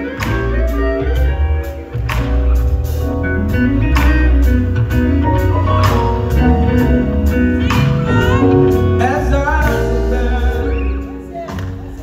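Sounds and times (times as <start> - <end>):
band playing instrumental: 0.0 - 12.0
guitar: 0.0 - 12.0.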